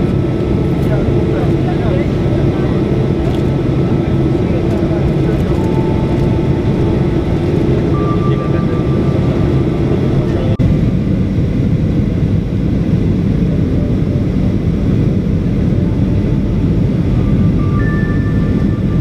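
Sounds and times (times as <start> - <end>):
airplane cabin engine noise: 0.0 - 19.0
faint steady whine: 0.0 - 19.0.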